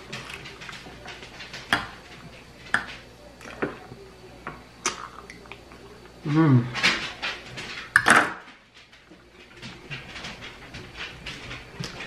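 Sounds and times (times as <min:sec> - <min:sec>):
quiet eating noises: 0:00.0 - 0:12.0.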